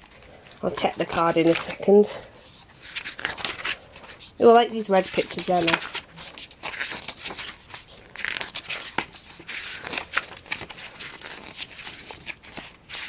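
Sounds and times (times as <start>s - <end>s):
pages turning: 0.0s - 13.0s.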